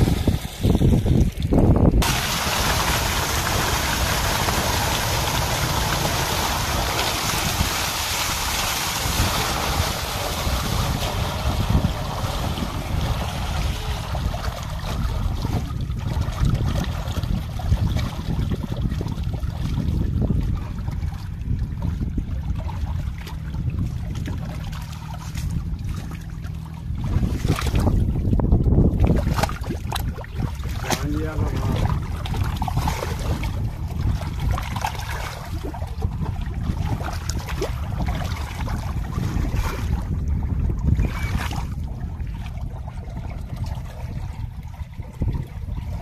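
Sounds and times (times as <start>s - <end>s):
muddy water sloshing and splashing: 0.0s - 46.0s
steady low rumble: 0.0s - 46.0s.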